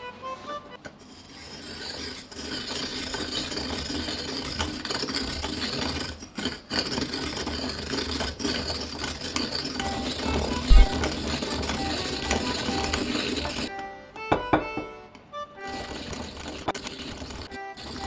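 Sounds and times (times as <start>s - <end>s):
coconut grater rasping scrape: 1.0s - 13.7s, 15.6s - 18.0s.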